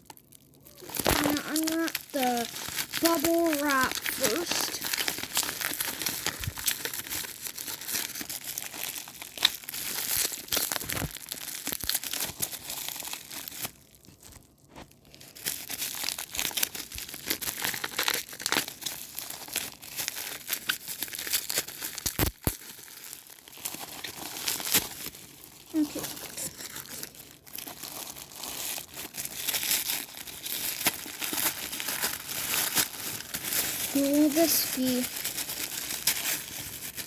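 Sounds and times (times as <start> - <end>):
bubble wrap crinkling and crackling: 0.0 - 37.0.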